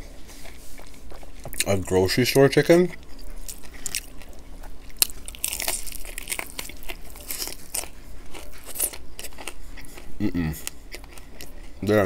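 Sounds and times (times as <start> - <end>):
crunching fried chicken: 0.4 - 12.0.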